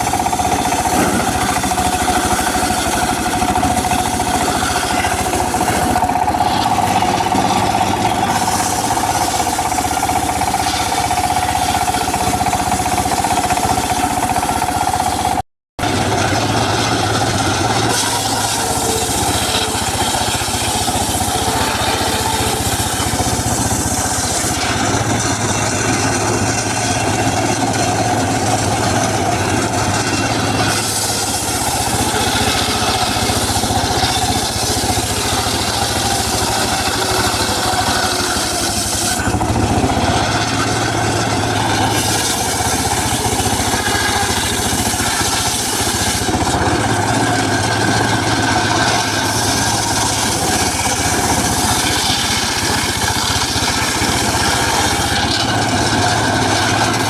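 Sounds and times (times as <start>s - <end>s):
circular saw cutting wood: 0.0s - 57.0s.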